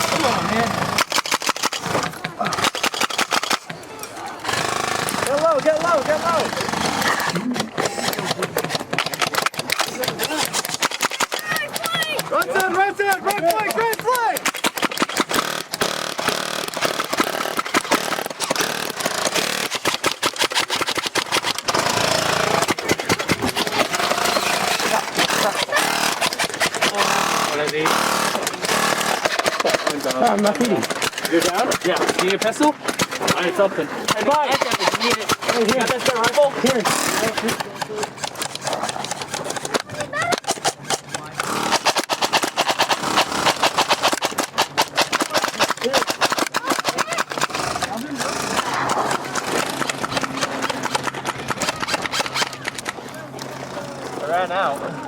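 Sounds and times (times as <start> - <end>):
airsoft guns firing: 0.0 - 53.8.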